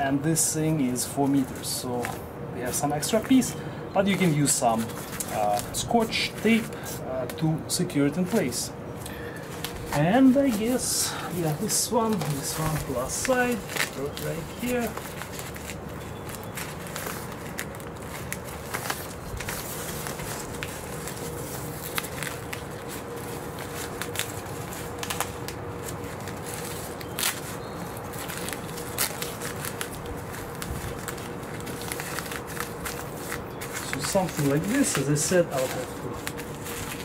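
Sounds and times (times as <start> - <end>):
fabric crackling on velcro: 0.9 - 7.4, 9.4 - 37.0.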